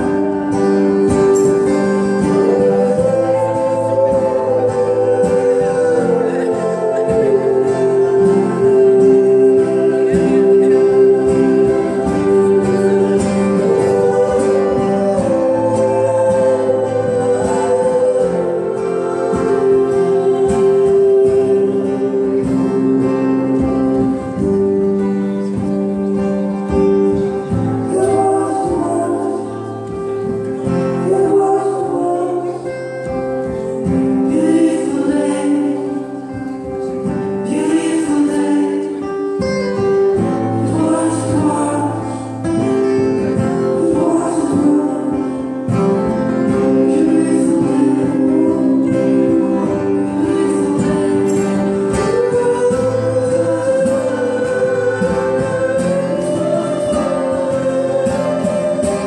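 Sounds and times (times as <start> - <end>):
man singing into a microphone: 0.0 - 25.7, 27.1 - 59.0
acoustic guitars strumming: 0.0 - 59.0.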